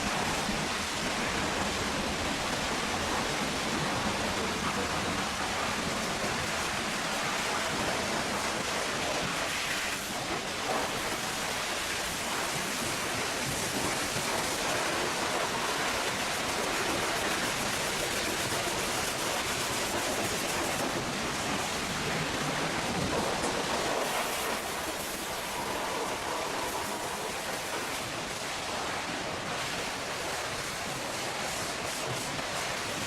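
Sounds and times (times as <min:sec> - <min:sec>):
high-pressure water spray hissing: 0:00.0 - 0:33.0.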